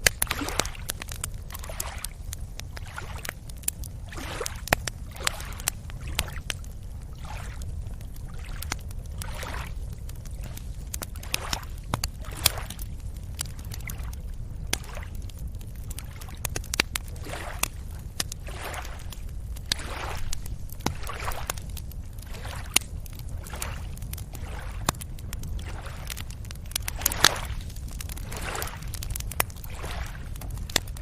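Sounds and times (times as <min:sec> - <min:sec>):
small waves lapping at beach: 0:00.0 - 0:31.0.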